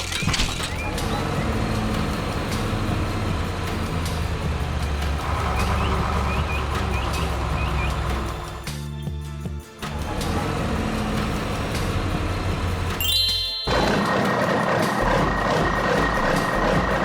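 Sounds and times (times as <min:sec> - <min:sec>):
heavy vehicle engine running: 0:00.0 - 0:08.8, 0:09.8 - 0:13.0, 0:13.7 - 0:17.0.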